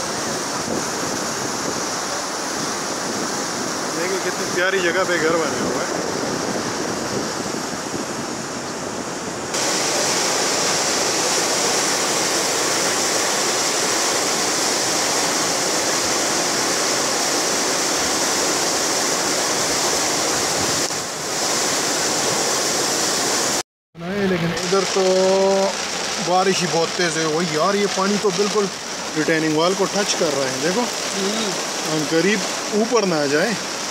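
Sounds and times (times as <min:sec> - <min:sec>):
floodwater rushing roar: 0:00.0 - 0:33.9.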